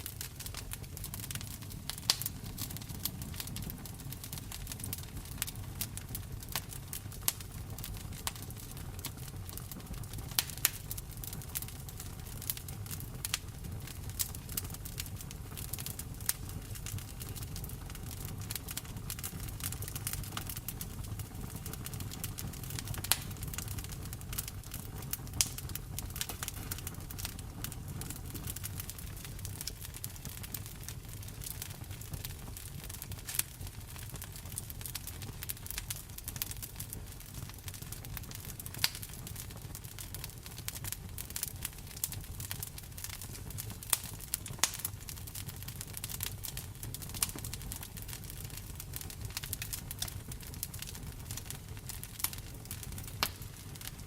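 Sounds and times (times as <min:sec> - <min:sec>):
rain pattering: 0:00.0 - 0:10.8, 0:17.4 - 0:44.9, 0:48.5 - 0:54.0
wood fire crackling: 0:00.0 - 0:54.0.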